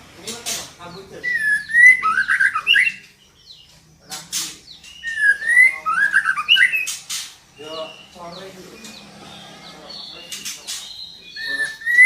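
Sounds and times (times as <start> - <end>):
harsh rasping bird notes: 0.0 - 12.0
bird calling with whistled notes: 1.2 - 12.0.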